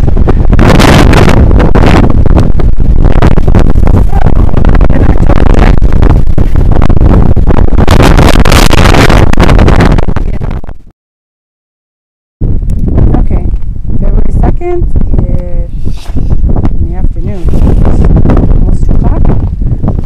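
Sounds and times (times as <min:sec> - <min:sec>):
wind buffeting microphone: 0:00.0 - 0:10.9, 0:12.4 - 0:20.0.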